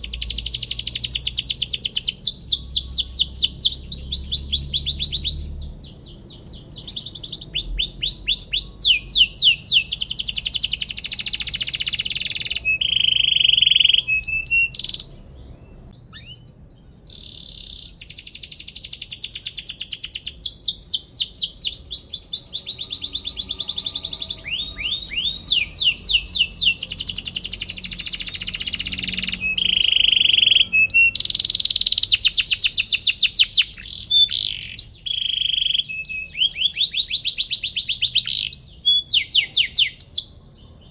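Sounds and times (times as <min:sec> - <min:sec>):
canary singing trills and chirps: 0:00.0 - 0:40.9.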